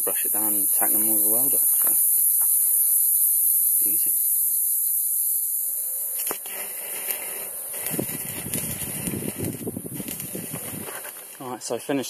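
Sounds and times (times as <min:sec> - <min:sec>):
arc welder crackling: 0:00.0 - 0:12.0
steady high hiss: 0:00.0 - 0:12.0.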